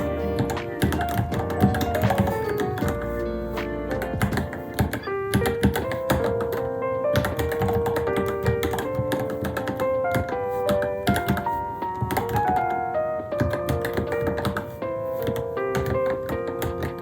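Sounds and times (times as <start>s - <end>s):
mechanical keyboard typing: 0.0s - 3.2s, 3.8s - 12.8s, 13.4s - 17.0s
background music: 0.0s - 17.0s.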